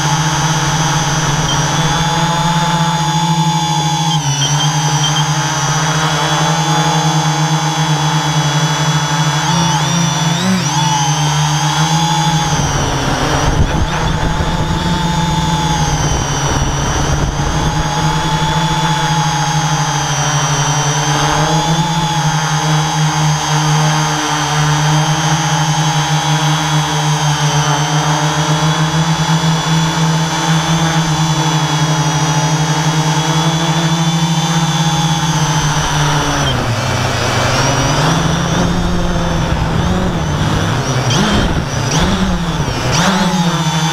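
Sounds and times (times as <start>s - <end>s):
drone propellers droning: 0.0s - 43.9s.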